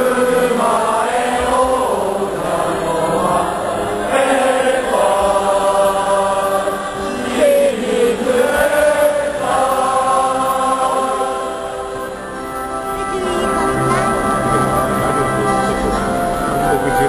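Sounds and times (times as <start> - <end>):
crowd singing a slow chant: 0.0 - 15.3.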